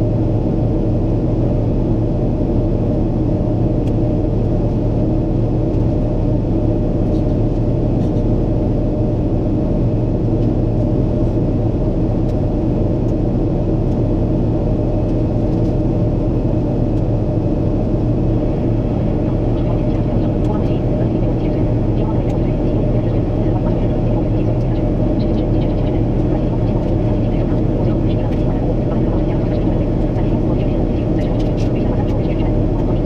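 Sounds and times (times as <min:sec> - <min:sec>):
jet engine rumble in cabin: 0:00.0 - 0:33.0.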